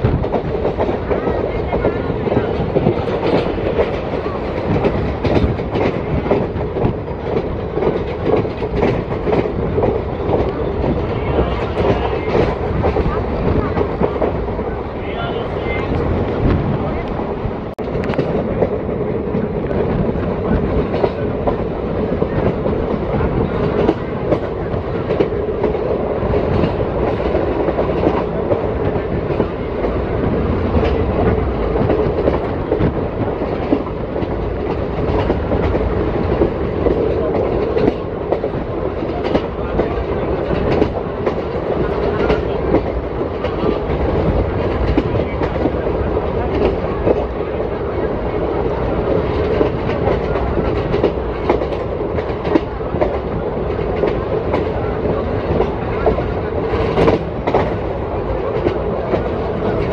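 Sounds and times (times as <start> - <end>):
wheels clacking over rail joints: 0.0 - 15.3, 15.9 - 59.9
train bogies rumbling on rails: 0.0 - 59.9.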